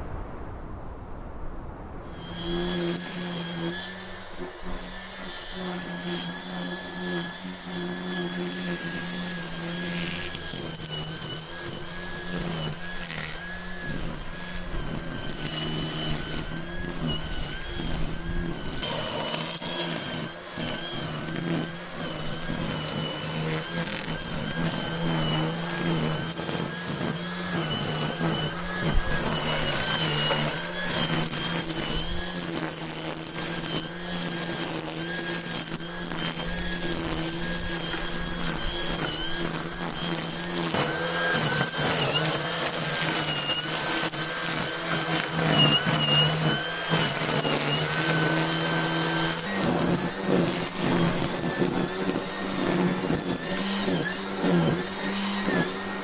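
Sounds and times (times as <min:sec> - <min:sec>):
motor humming with whine: 0:02.1 - 0:56.0.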